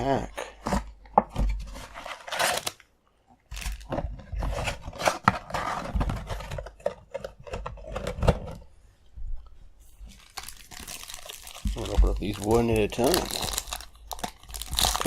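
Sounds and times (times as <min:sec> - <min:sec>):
card packs rustling and tearing: 0:00.4 - 0:02.9, 0:03.5 - 0:08.6, 0:10.1 - 0:15.0.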